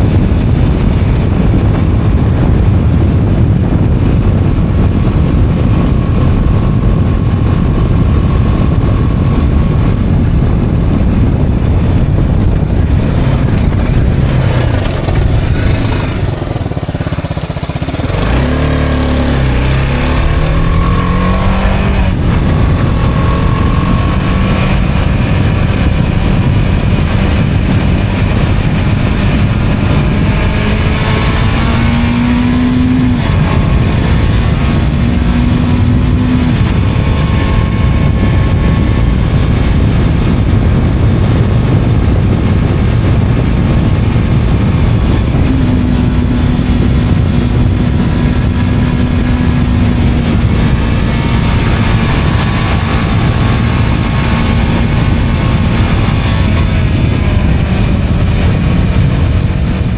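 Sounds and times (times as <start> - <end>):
motorcycle engine: 0.0 - 59.9
wind rush on microphone: 0.0 - 59.9.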